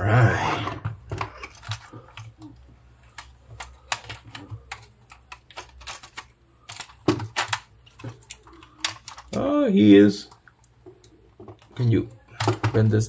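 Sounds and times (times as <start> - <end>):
plastic toy parts clicking: 1.1 - 9.5, 10.3 - 12.9.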